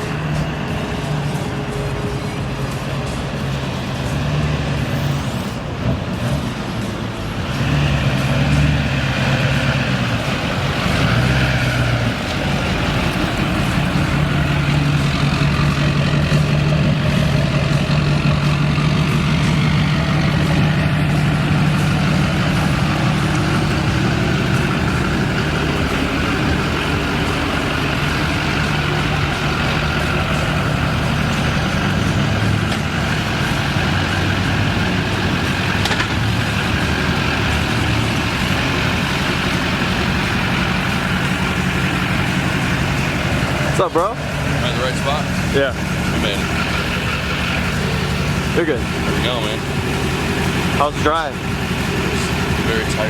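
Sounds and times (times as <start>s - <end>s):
diesel truck engine droning: 0.0s - 53.0s.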